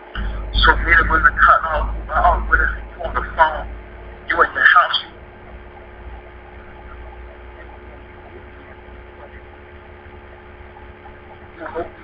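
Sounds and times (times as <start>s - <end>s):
low hum: 0.0s - 12.0s
thin steady tone: 0.0s - 12.0s.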